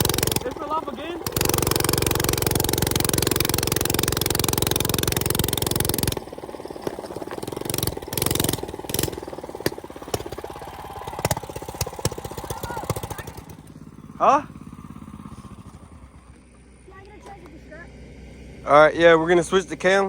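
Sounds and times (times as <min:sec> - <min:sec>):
minibike engine running: 0:00.0 - 0:20.0.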